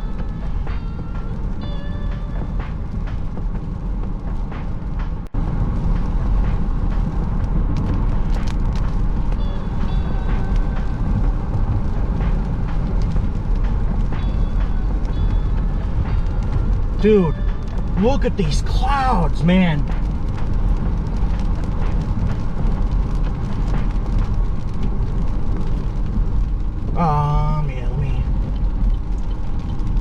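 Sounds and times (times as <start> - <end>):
vehicle road and engine rumble: 0.0 - 30.0.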